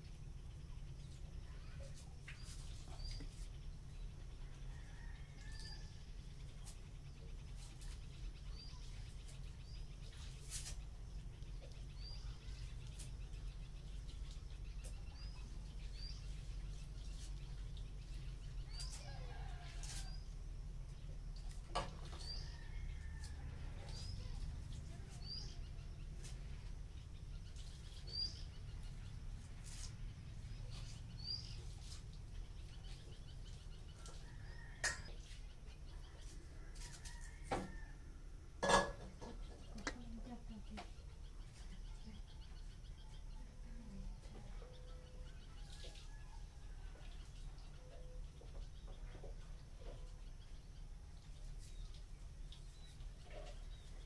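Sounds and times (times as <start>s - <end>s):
bird chirping: 0.0s - 37.9s, 39.1s - 54.0s
steady low hum: 0.0s - 54.0s.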